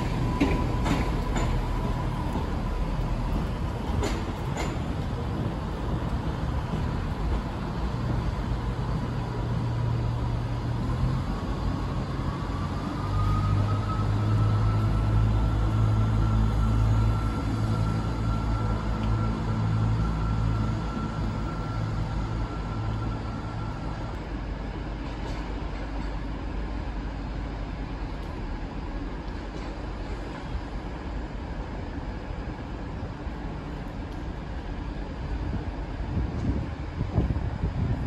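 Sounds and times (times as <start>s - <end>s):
diesel train engine hum: 0.0s - 38.0s.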